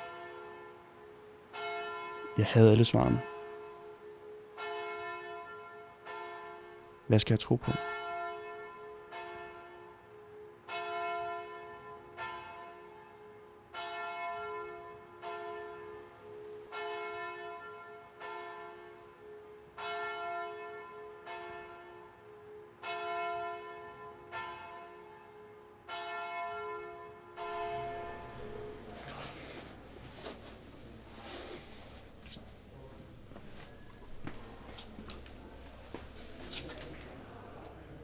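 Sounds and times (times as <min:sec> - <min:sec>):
church bell tolling: 0:00.0 - 0:31.2.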